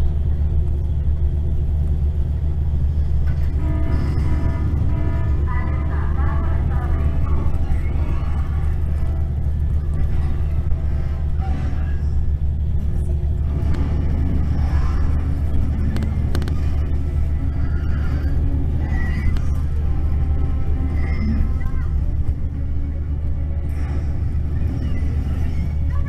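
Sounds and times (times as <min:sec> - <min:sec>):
coach engine and road noise: 0:00.0 - 0:26.0.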